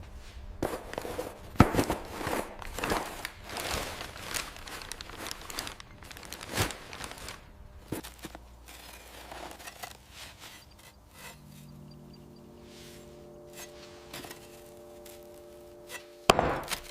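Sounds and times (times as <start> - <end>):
low steady hum: 0.0 - 16.9
rustling and handling noises: 0.0 - 16.9.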